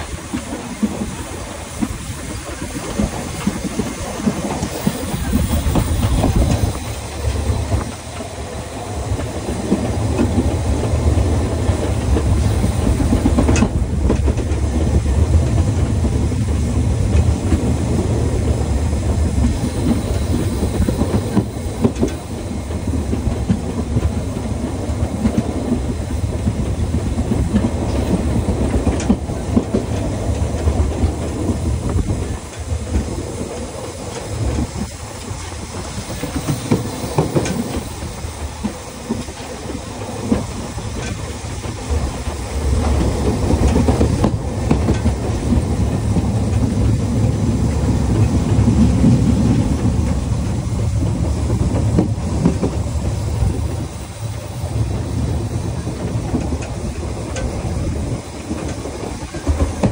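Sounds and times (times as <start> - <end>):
steam train rumbling: 0.0 - 59.9
wheels clicking over rail joints: 0.0 - 59.9.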